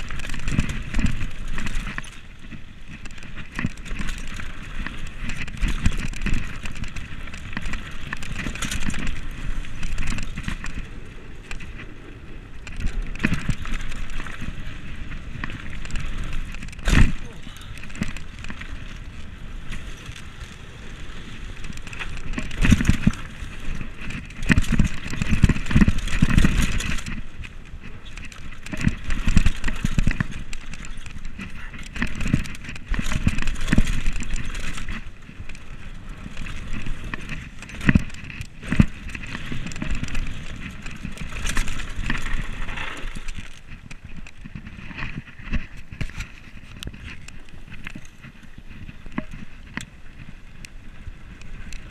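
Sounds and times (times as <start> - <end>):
bike rattling over bumps: 0.0 - 51.9
tyres rumbling on dirt: 0.0 - 51.9
wind buffeting microphone: 0.0 - 51.9.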